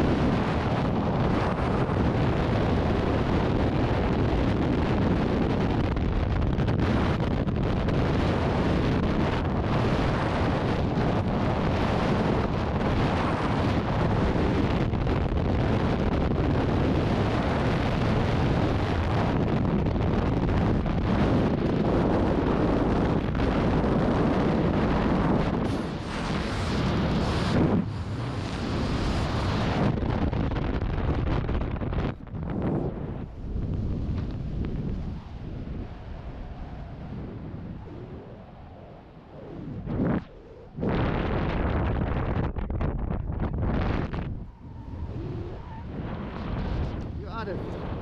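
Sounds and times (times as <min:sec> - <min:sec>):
wind roar: 0:00.0 - 0:48.0.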